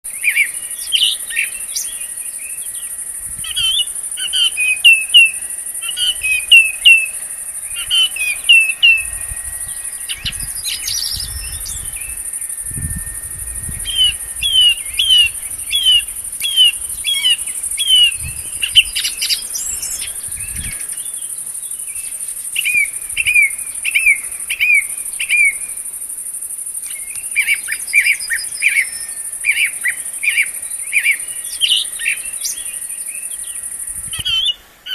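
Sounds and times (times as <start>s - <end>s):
songbird singing: 0.0s - 34.9s
high-pitched insect drone: 0.1s - 34.9s.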